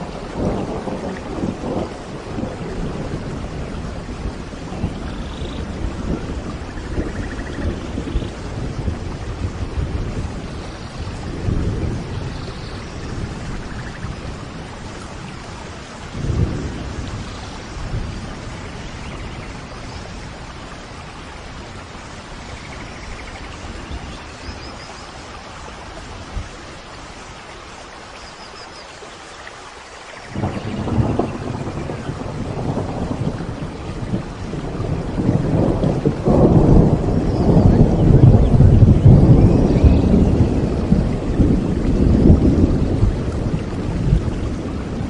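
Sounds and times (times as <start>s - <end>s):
rolling thunder: 0.0s - 24.7s, 30.2s - 45.0s
steady rain: 0.0s - 45.0s.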